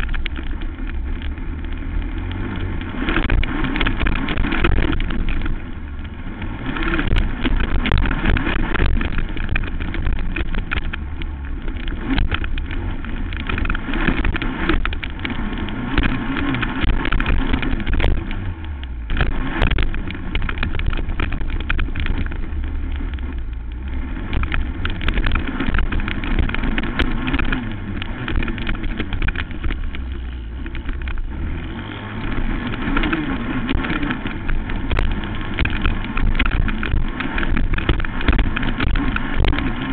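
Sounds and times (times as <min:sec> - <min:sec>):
quad engine running hard: 0:00.0 - 0:39.9
sharp knocks and rattles: 0:00.0 - 0:39.9.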